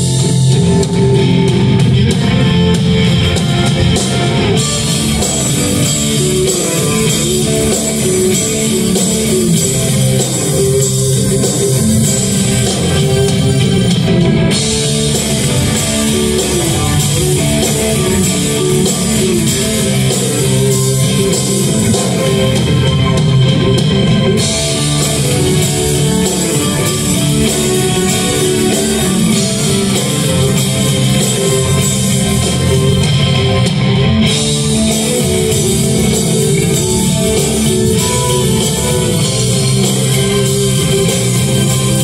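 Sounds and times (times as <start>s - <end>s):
bass guitar: 0.0s - 42.0s
electric guitar: 0.0s - 42.0s
live rock band playing: 0.0s - 42.0s.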